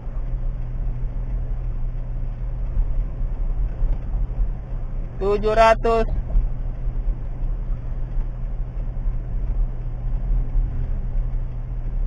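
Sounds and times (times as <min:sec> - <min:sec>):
car engine drone: 0:00.0 - 0:12.0
tyre and road rumble: 0:00.0 - 0:12.0.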